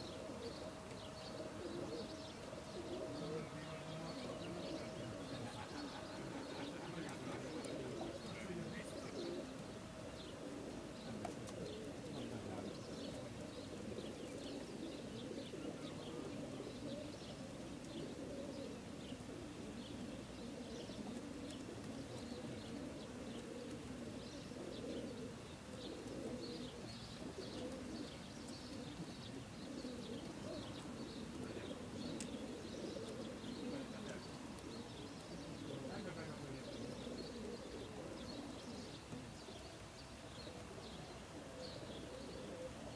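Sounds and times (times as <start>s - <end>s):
pigeons cooing: 0.0s - 42.9s.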